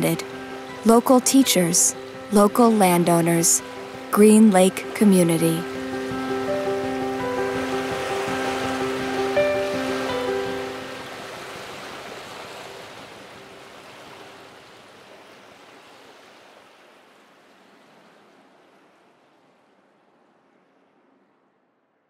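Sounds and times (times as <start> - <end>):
rushing water: 0.0 - 21.3.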